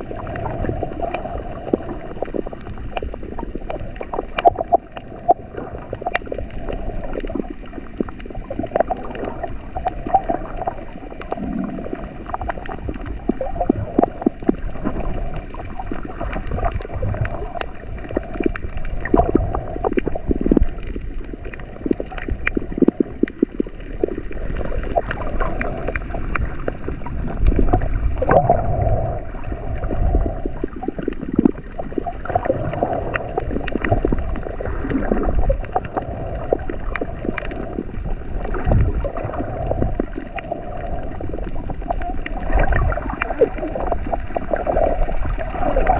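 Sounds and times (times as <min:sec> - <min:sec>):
underwater sloshing and gurgling: 0:00.0 - 0:45.9
clicks and pops: 0:01.1 - 0:28.7, 0:29.8 - 0:40.5.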